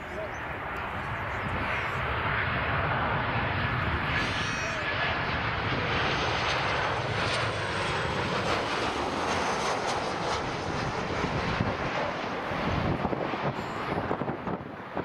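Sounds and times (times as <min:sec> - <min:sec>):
jet engines passing low: 0:00.0 - 0:15.0.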